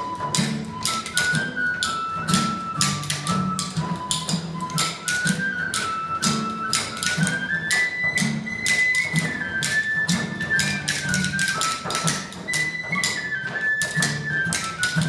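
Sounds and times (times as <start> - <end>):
flute melody: 0.0 - 15.0
percussion clicks: 0.0 - 15.0
strummed acoustic guitar: 0.0 - 15.0.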